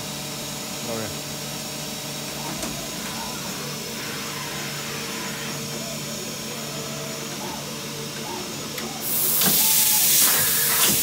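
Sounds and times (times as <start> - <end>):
machine hum and hiss: 0.0 - 11.0.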